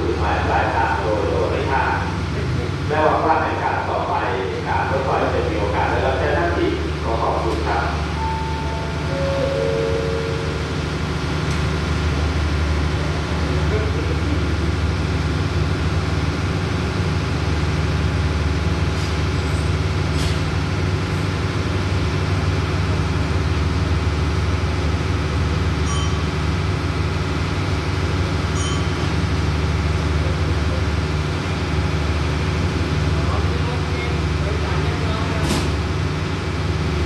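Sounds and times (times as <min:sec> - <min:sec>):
diesel train engine idling: 0:00.0 - 0:37.0.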